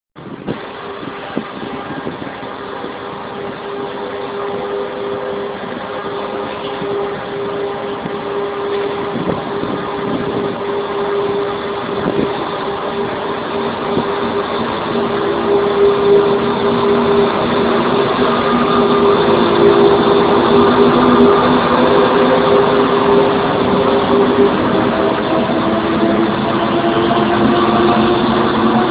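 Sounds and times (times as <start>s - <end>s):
diesel locomotives droning: 0.2s - 28.9s.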